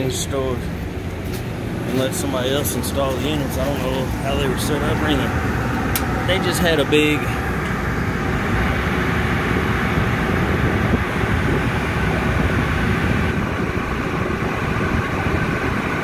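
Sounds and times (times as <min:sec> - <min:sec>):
air conditioning fan running: 0:00.0 - 0:16.0.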